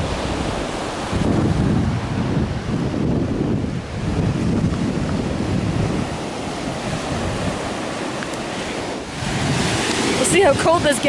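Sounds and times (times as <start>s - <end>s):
surf breaking on beach: 0.0s - 11.0s
wind gusting on microphone: 0.0s - 11.0s.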